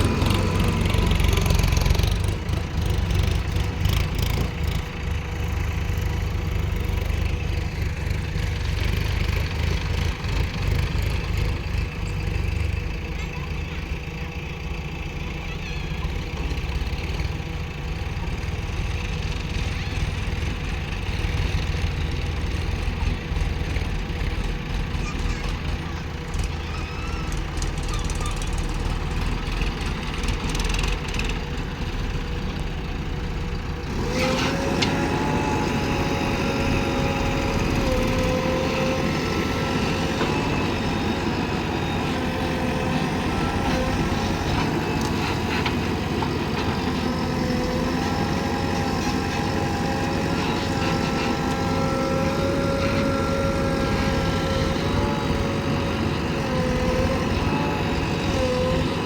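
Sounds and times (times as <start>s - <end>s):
diesel machinery engines running: 0.0s - 59.0s.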